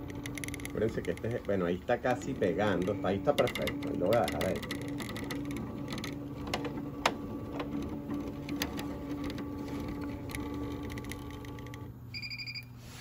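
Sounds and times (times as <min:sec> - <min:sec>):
machine clicks: 0:00.0 - 0:11.9
embroidery machine motor hum: 0:00.0 - 0:12.1.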